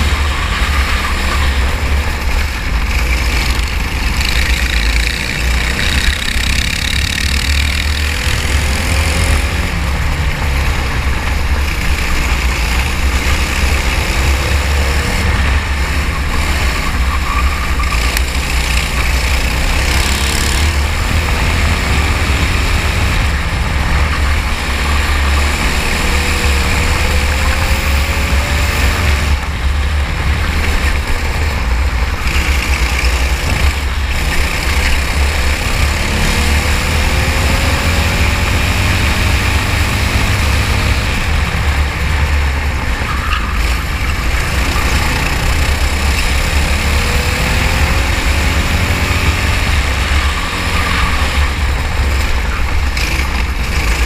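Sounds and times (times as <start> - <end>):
kart engine accelerating: 0.0 - 54.0.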